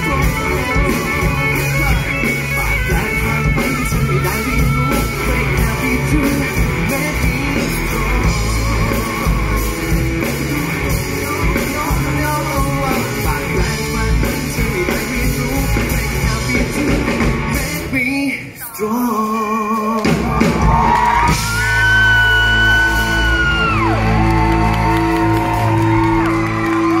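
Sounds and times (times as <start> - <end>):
live pop-rock band: 0.0 - 27.0.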